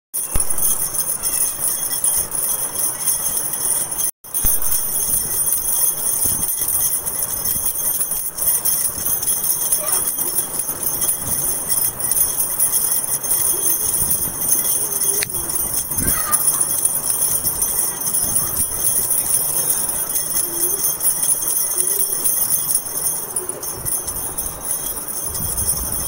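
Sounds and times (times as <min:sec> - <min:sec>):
jingling bells: 0:00.1 - 0:26.0.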